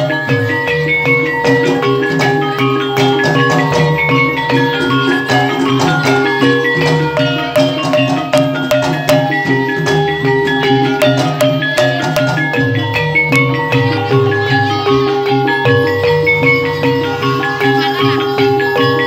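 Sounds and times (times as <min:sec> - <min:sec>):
hand drums beating: 0:00.0 - 0:19.0
struck tuned instruments melody: 0:00.0 - 0:19.0.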